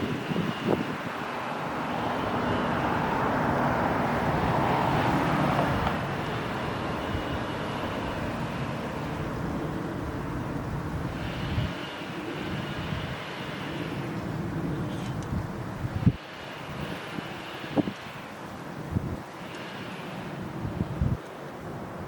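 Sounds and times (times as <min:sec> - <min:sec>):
engine rumbling past: 0:00.0 - 0:21.2.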